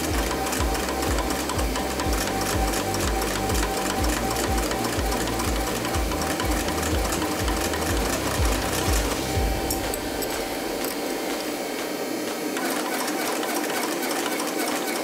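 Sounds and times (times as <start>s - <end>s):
forging press whine: 0.0s - 13.1s.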